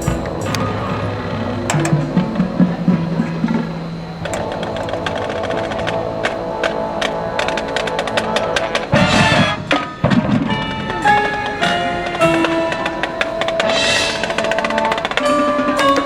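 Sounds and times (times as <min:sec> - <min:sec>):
percussion clicking strokes: 0:00.0 - 0:16.0
wind instruments holding notes: 0:00.0 - 0:16.0.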